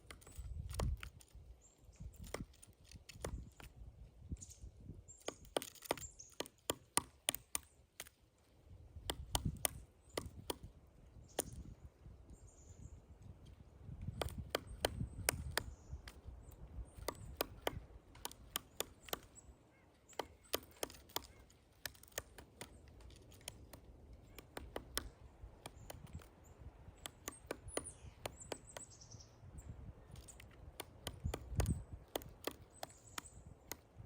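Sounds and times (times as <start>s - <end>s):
woodpecker knocking on wood: 0.0s - 1.3s, 2.1s - 3.7s, 5.1s - 8.2s, 9.0s - 11.8s, 13.4s - 34.0s.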